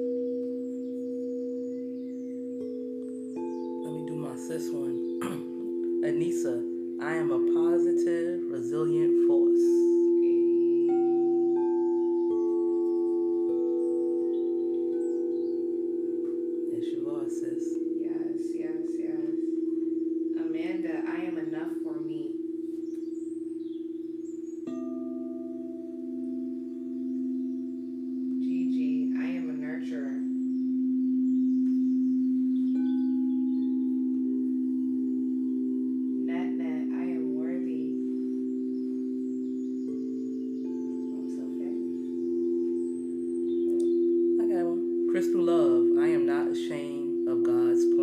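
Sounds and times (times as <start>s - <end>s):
singing bowl strikes: 0.0s - 8.6s, 9.9s - 46.0s
singing bowls ringing: 0.0s - 48.0s.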